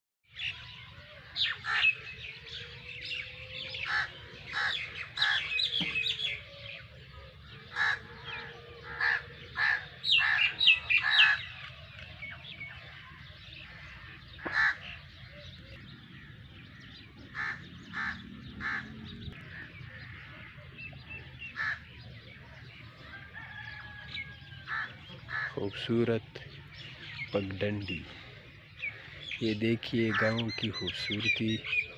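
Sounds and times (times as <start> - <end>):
birds calling: 0.3 - 31.9.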